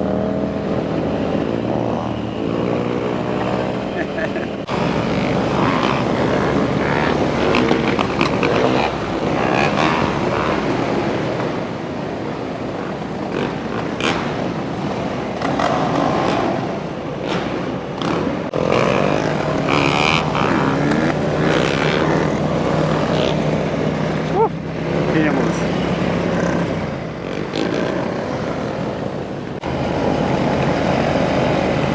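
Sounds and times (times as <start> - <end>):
motorcycle engines revving: 0.0 - 31.9.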